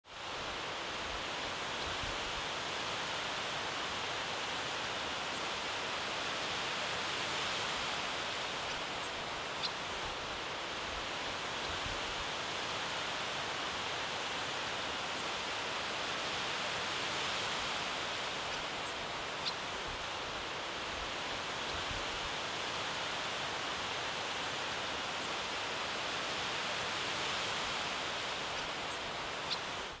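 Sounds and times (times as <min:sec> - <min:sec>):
wind rustling leaves: 0:00.0 - 0:30.0.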